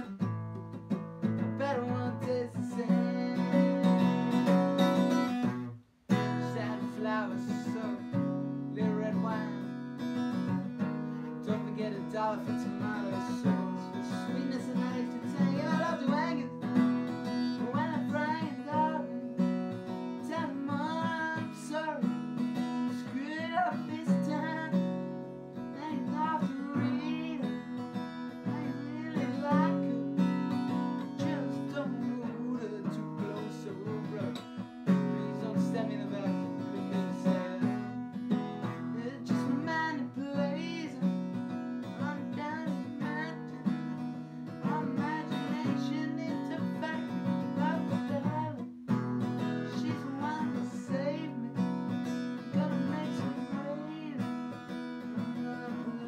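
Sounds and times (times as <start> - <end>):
acoustic guitar strumming: 0.0 - 56.0
man singing: 1.2 - 56.0.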